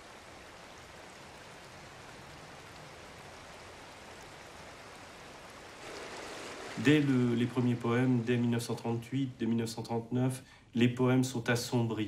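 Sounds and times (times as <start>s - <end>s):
river water running over stones: 0.0s - 9.9s.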